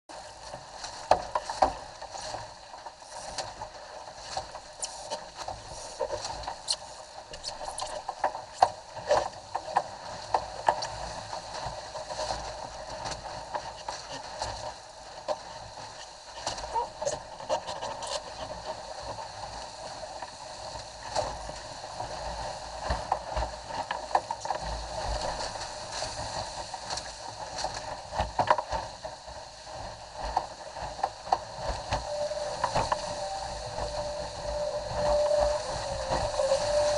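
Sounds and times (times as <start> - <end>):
water rushing along a hull: 0.1 - 36.9
waves slapping a boat: 0.1 - 36.9.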